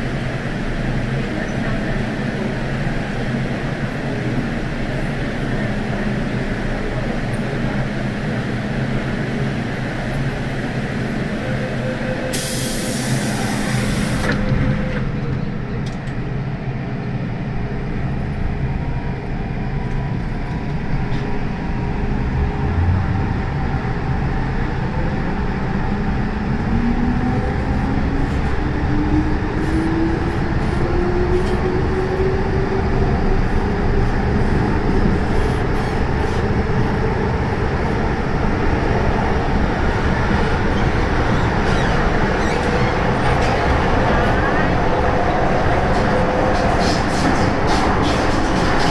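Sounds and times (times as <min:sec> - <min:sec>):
train wheels rumbling on track: 0:00.0 - 0:48.9.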